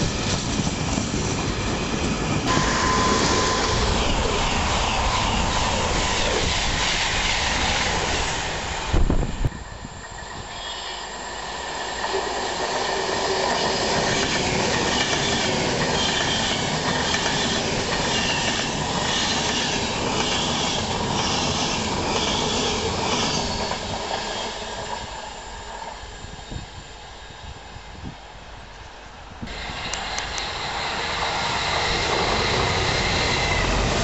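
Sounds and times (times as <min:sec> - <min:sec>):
train wheel and air rush: 0:00.0 - 0:28.2, 0:29.4 - 0:34.0.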